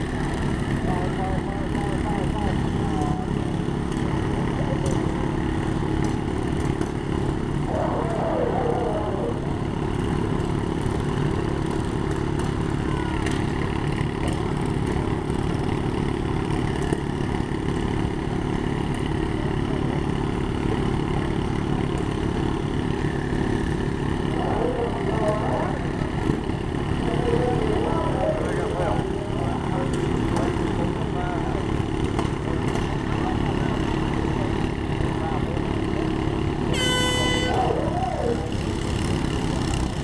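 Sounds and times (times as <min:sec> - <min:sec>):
lawn mower engines running: 0:00.0 - 0:40.0.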